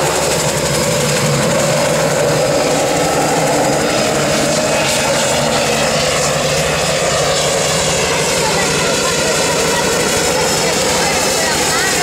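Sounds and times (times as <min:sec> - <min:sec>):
helicopter flying past: 0:00.0 - 0:12.0.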